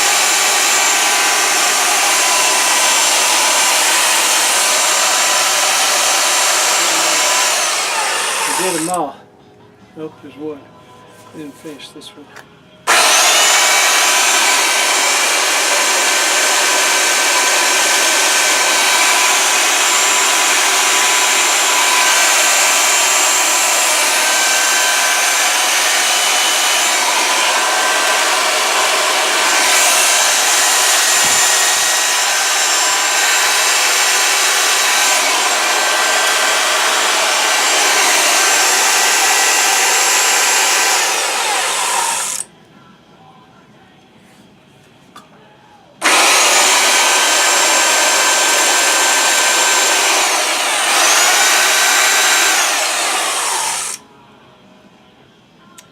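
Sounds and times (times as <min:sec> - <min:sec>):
belt sander sanding wood: 0:00.0 - 0:09.0, 0:12.9 - 0:42.4, 0:46.0 - 0:54.0.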